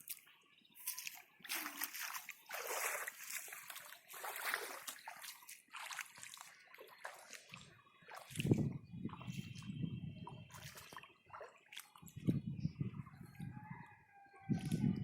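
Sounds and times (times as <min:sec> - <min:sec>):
hands splashing in muddy water: 0:00.0 - 0:12.4.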